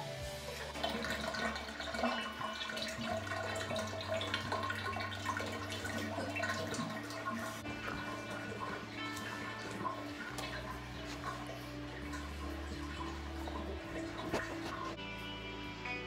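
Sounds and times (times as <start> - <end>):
water gurgling in a bathtub: 0.4 - 15.0.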